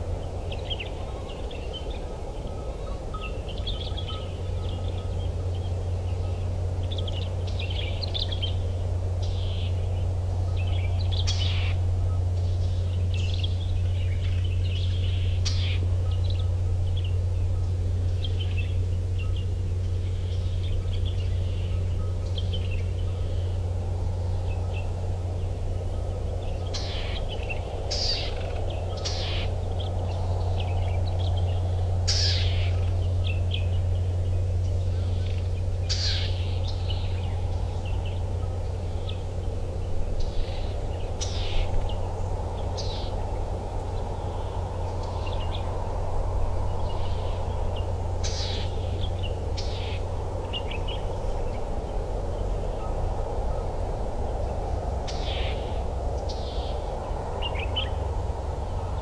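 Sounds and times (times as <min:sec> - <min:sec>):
birds chirping: 0:00.0 - 0:59.0
low rumble and hiss: 0:00.0 - 0:59.0.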